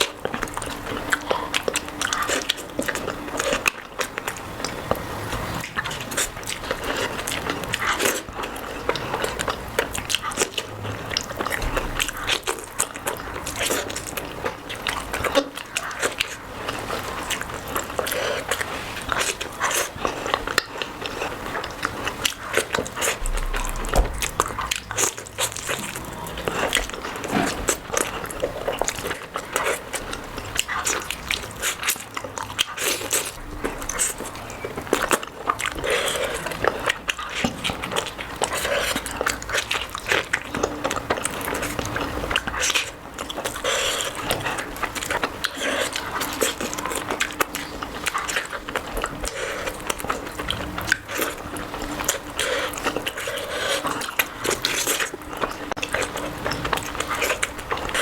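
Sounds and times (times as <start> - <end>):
person biting and chewing food: 8.9 - 58.0.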